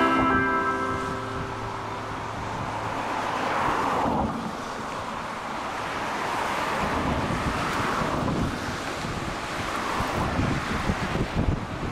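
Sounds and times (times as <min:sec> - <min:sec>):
wind gusting across microphone: 0:00.9 - 0:11.9.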